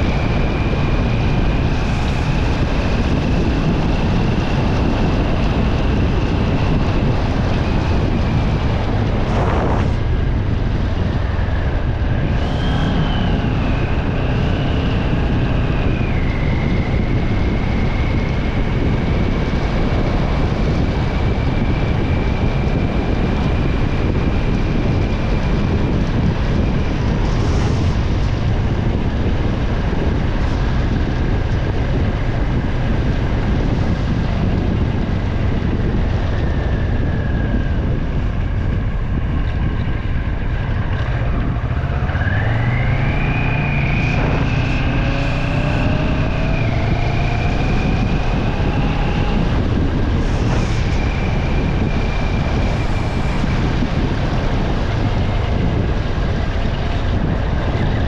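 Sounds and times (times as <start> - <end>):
tyre noise on wet road: 0.0 - 58.0
wind on microphone: 0.0 - 58.0.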